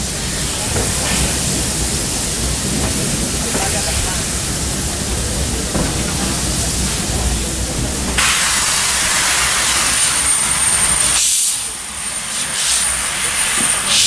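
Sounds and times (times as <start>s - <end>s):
loud steam hiss: 0.0s - 14.0s
train carriage rumbling: 0.0s - 14.0s.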